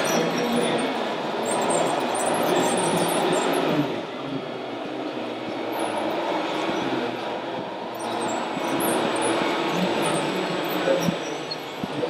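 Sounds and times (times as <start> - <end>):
toy truck motor rumble: 0.0 - 12.0.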